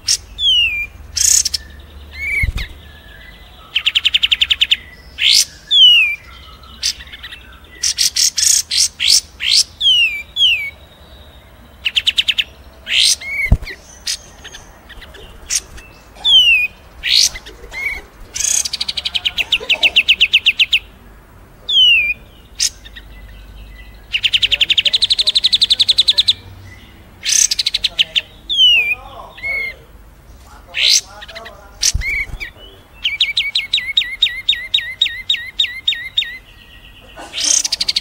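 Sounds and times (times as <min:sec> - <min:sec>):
songbirds singing: 0:00.0 - 0:38.0.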